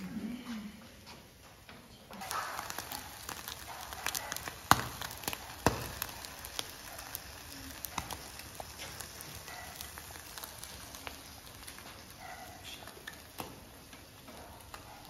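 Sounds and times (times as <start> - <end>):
coals crackling and popping: 0.0 - 15.0
meat sizzling over charcoal: 2.1 - 15.0.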